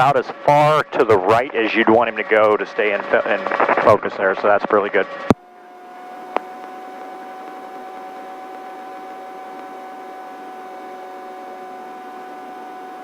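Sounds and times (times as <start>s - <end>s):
helicopter cabin noise: 0.0s - 13.0s.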